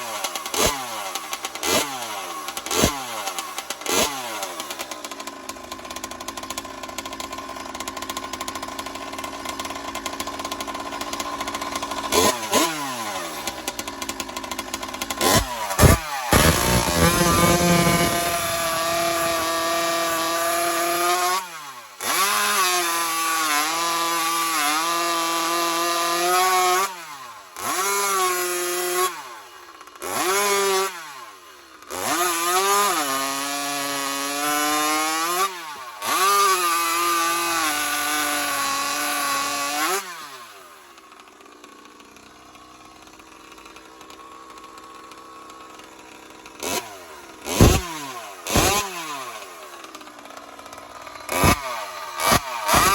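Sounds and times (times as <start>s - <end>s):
two-stroke engine revving: 0.0s - 40.8s, 44.6s - 52.9s.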